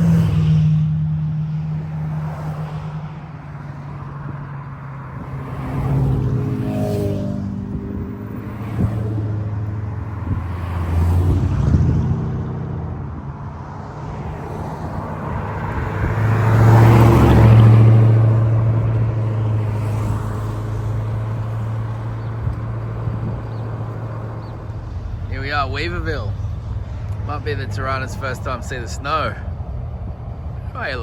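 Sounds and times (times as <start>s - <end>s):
vehicle engine and road drone: 0.0s - 31.0s.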